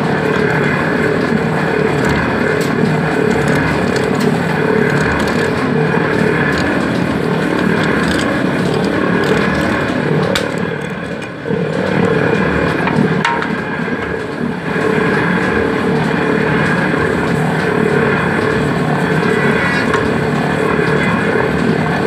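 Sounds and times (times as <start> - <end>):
oil mill mechanical drone: 0.0 - 22.0.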